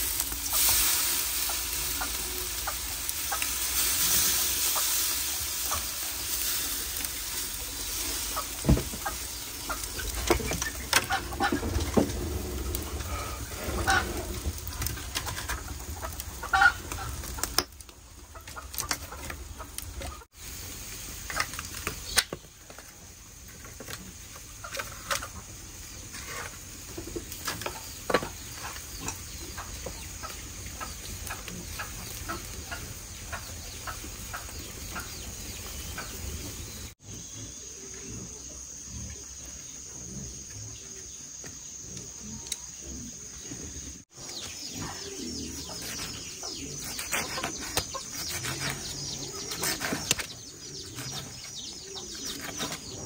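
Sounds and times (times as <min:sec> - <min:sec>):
cooking fire crackling: 0:00.0 - 0:37.0, 0:41.9 - 0:53.0
chickens clucking: 0:00.1 - 0:20.3, 0:21.1 - 0:53.0.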